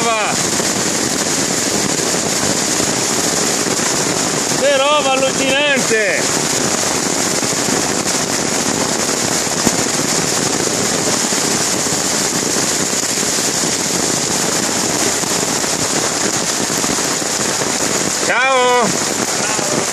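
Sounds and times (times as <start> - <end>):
hail and rain pelting down: 0.0 - 19.9.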